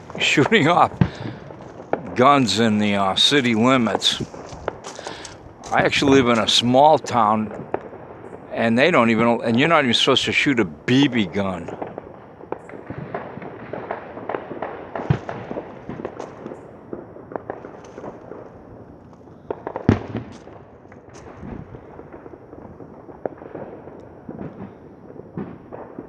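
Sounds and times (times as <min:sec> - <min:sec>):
distant fireworks crackling: 0:00.0 - 0:26.0
loud firework bangs: 0:00.0 - 0:26.0.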